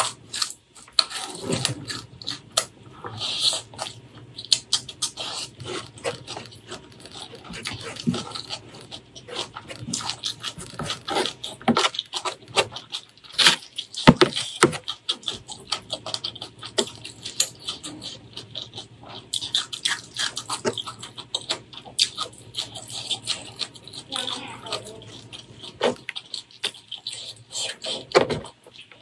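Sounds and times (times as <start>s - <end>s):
open-mouth chewing with smacks: 0.0s - 29.0s.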